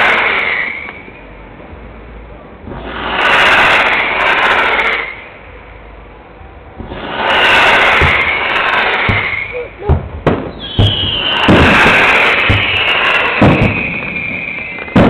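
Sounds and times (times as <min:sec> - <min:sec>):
fireworks hissing: 0:00.0 - 0:15.0.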